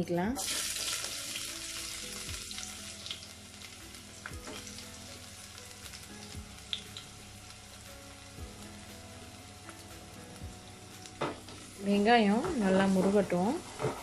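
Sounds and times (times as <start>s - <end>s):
onion sizzling in oil: 0.3s - 14.0s.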